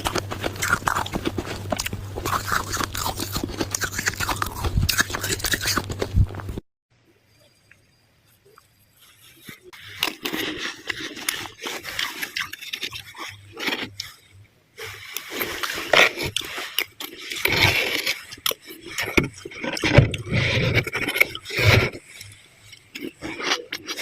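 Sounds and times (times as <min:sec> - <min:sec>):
frost being scraped and crunched: 0:00.0 - 0:06.6, 0:08.9 - 0:24.0.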